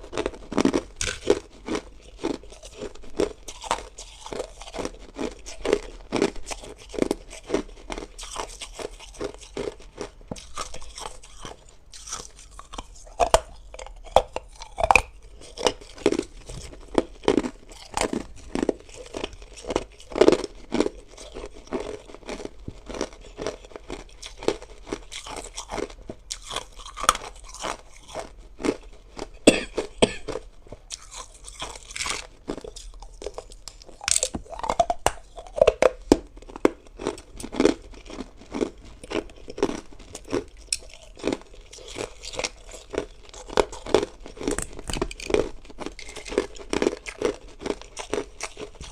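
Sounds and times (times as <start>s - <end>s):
ice being chewed: 0.0s - 48.9s.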